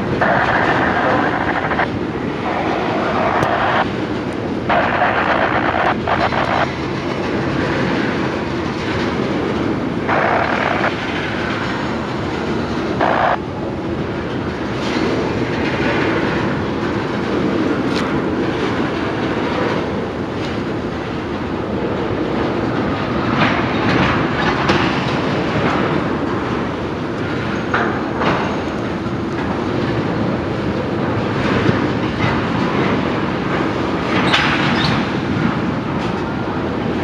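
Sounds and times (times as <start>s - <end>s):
clickety-clack at rail joints: 0.0s - 37.0s
hiss from train wheels: 0.0s - 37.0s
train wheels rumbling on rails: 0.0s - 37.0s.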